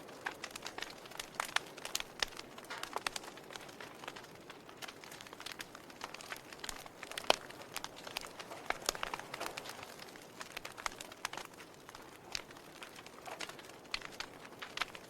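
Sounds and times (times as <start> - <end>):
burning logs crackling: 0.0 - 15.0.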